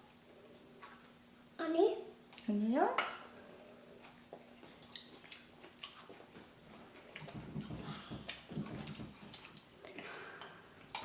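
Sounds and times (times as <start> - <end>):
soft eating noises: 0.0 - 11.0.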